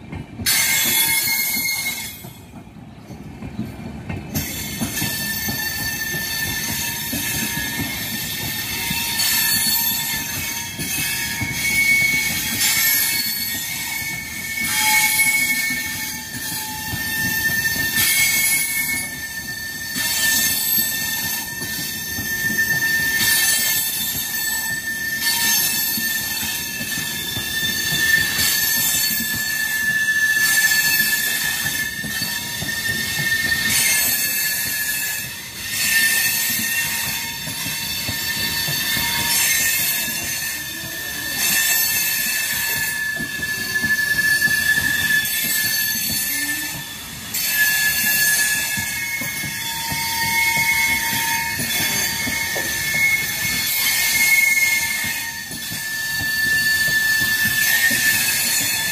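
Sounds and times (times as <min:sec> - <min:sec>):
train wheels rumbling on rail: 0:00.0 - 0:58.9
wheels squealing: 0:04.4 - 0:58.9.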